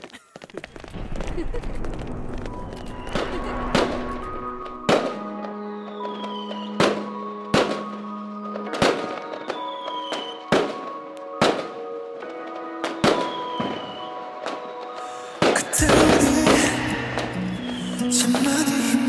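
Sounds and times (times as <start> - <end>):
fireworks bangs: 0.6 - 18.7
soft music with long held notes: 3.0 - 19.0.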